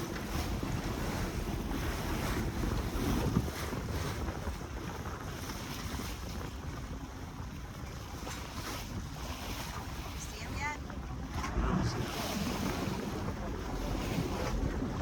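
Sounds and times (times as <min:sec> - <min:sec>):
low rumble from boat: 0:00.0 - 0:15.0
water against hull: 0:00.0 - 0:15.0
wind buffeting microphone: 0:00.0 - 0:15.0.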